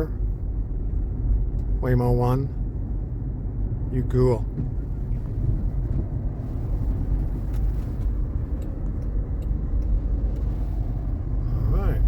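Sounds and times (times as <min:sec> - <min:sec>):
road rumble inside car: 0:00.0 - 0:12.0.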